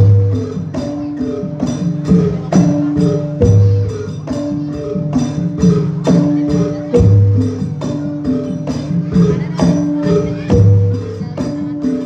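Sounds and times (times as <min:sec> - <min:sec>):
drum strokes: 0:00.0 - 0:12.0
gamelan metallophone and gong-chimes: 0:00.0 - 0:12.0.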